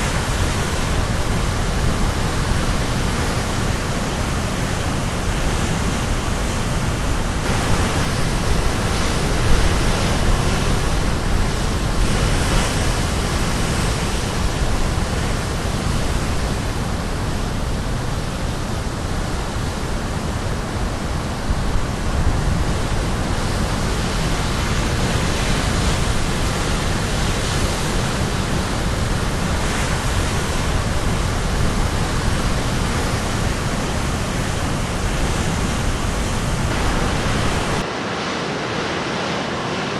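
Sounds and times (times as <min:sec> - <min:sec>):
surf breaking on shore: 0:00.0 - 0:39.9.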